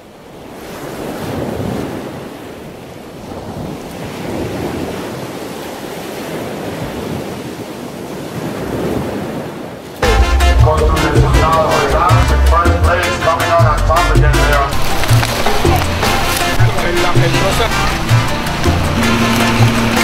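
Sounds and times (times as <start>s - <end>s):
ocean surf breaking: 0.0s - 20.0s
wind: 0.0s - 20.0s.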